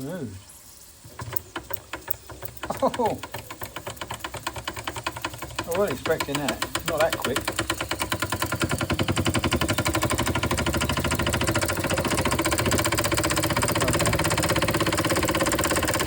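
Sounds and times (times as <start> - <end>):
toy steam engine chuffing: 1.1 - 16.0.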